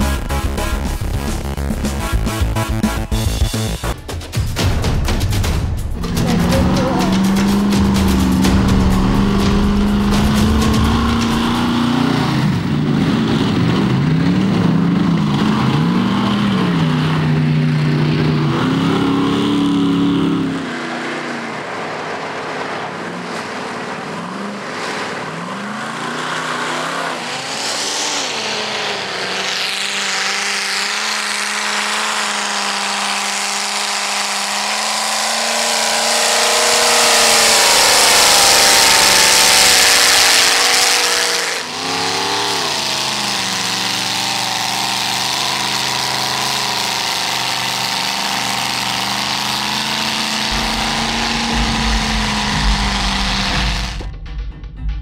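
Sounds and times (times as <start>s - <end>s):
truck engines revving: 0.0s - 54.4s.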